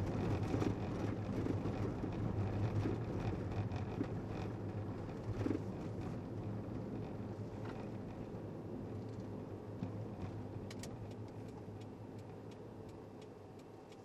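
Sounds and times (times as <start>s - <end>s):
noisy outdoor background: 0.0s - 14.0s.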